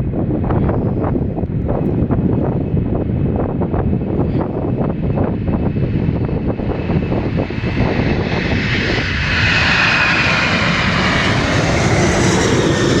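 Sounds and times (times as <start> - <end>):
jet engines roaring: 0.3 - 13.0.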